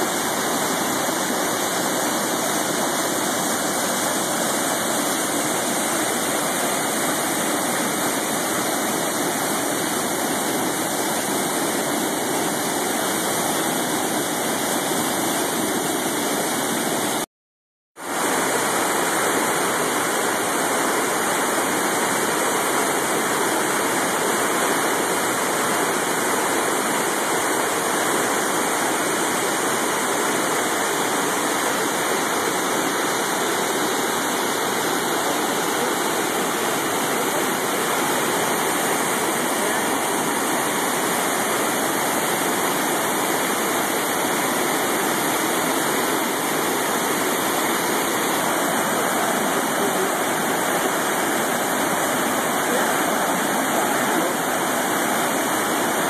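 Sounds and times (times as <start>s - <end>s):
water rushing over rapids: 0.0s - 17.3s, 18.0s - 56.0s.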